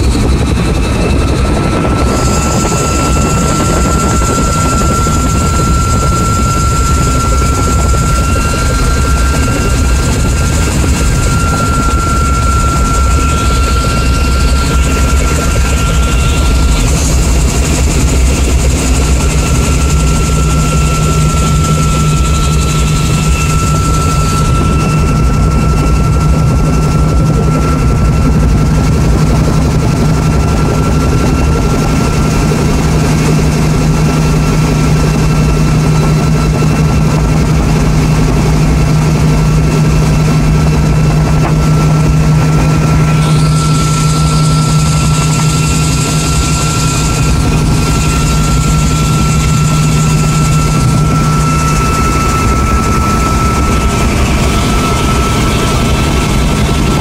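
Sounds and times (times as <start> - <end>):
helicopter engine and rotor hum: 0.0 - 57.0
thin high whine: 0.0 - 57.0.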